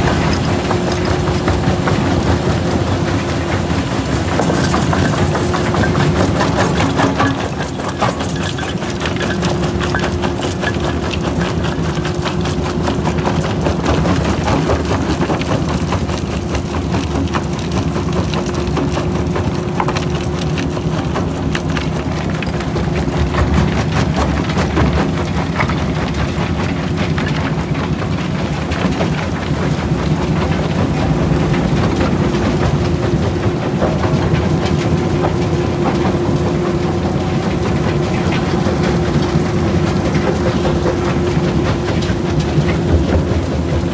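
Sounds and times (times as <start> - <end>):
crusher engine droning: 0.0 - 43.9.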